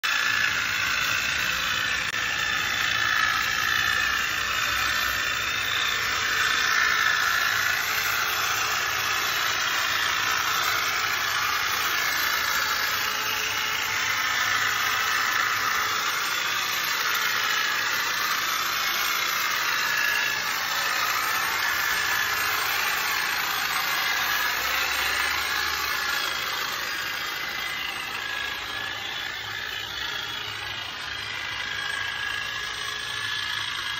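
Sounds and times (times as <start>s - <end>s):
electric hedge trimmer buzzing: 0.0s - 33.9s.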